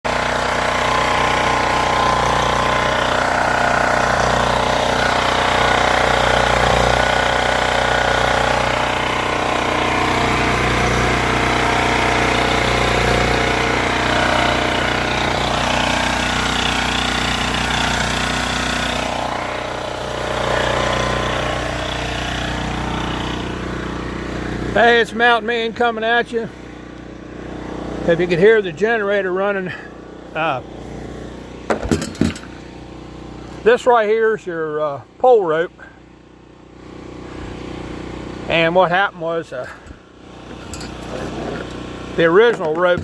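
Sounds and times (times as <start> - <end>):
portable generator engine running: 0.0 - 43.0.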